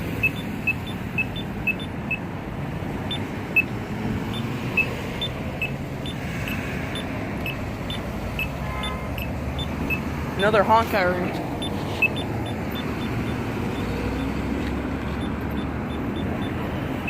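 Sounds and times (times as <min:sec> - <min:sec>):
road traffic hum: 0:00.0 - 0:17.0
crossing button high beeps: 0:00.1 - 0:02.3, 0:03.1 - 0:14.4, 0:15.1 - 0:17.0.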